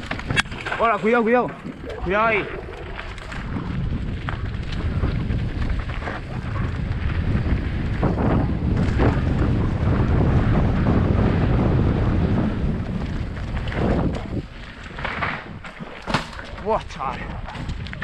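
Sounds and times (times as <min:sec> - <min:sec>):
bike tyre rumble: 0:00.0 - 0:18.0
wind buffeting microphone: 0:00.0 - 0:18.0
bike knocking over bumps: 0:03.0 - 0:18.0.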